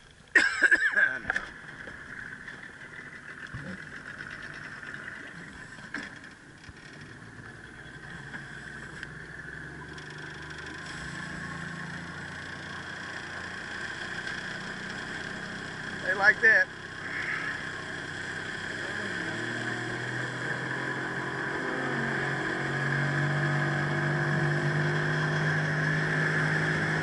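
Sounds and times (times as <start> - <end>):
small boat motor humming: 0.0 - 27.0.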